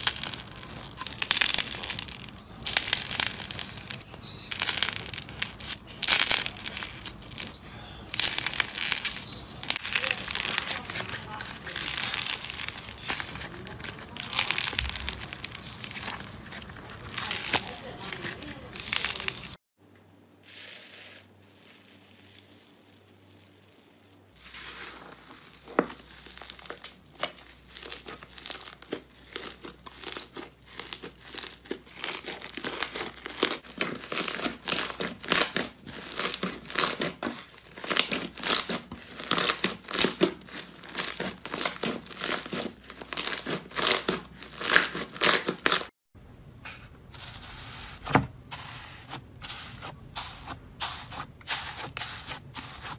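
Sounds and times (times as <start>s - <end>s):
fingers rustling grainy slime: 0.0s - 19.6s, 20.4s - 45.9s, 47.1s - 52.9s
slime crackling and popping: 0.0s - 19.6s, 21.7s - 45.9s.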